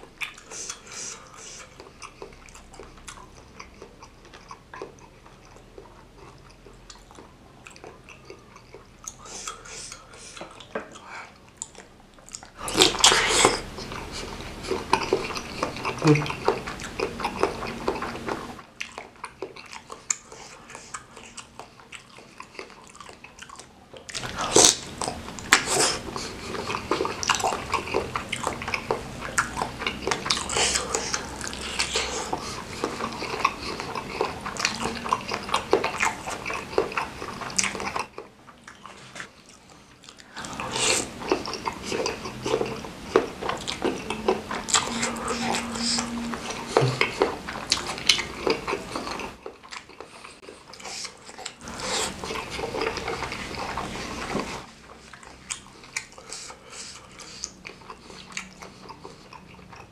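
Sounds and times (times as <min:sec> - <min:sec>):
wet chewing mouth sounds: 0:00.0 - 0:59.9.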